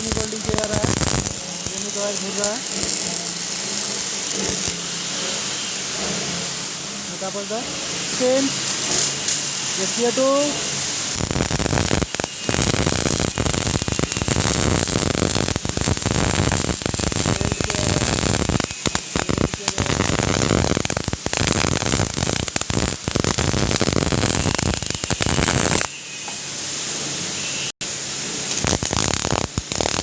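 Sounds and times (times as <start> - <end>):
welding arc crackling: 0.0 - 30.0.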